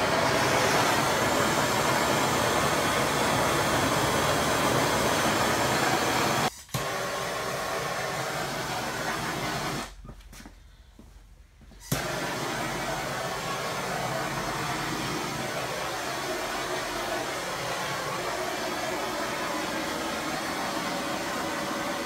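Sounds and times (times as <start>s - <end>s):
gas torch flame hissing: 0.0s - 10.0s, 11.8s - 22.0s.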